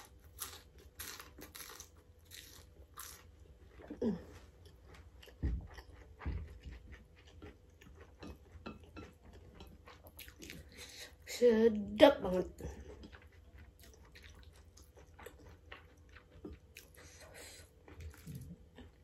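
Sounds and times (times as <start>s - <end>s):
crunching and chewing fried food: 0.0s - 11.3s, 12.4s - 19.0s.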